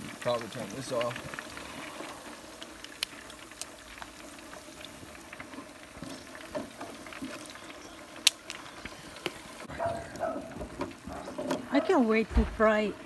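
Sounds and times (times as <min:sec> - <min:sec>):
hot oil bubbling and crackling: 0:00.0 - 0:13.0
oil dripping: 0:00.0 - 0:13.0.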